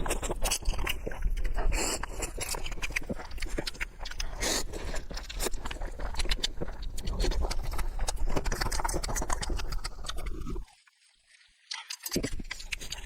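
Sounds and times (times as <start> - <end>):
person chewing noodles: 0.0 - 10.7, 11.9 - 13.0.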